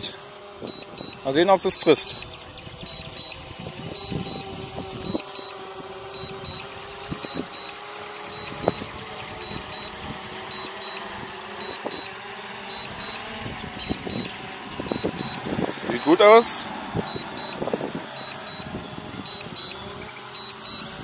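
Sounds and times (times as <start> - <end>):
drone propellers humming: 0.0 - 21.0
short high beeps: 0.6 - 15.5, 17.0 - 17.6, 18.2 - 21.0.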